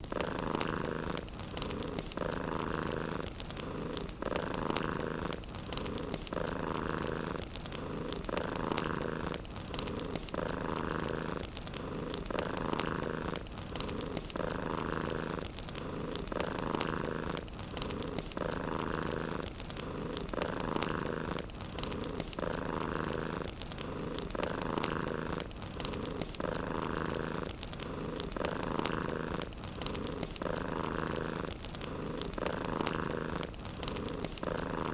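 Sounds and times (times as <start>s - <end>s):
cat purring: 0.0s - 34.9s
wood fire crackling: 0.0s - 34.9s.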